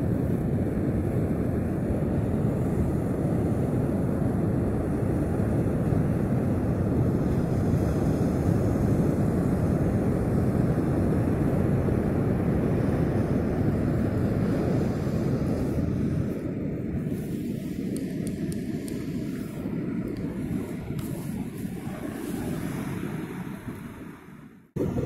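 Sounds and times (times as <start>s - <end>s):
ocean surf: 0.0s - 25.0s
wind on microphone: 0.0s - 25.0s.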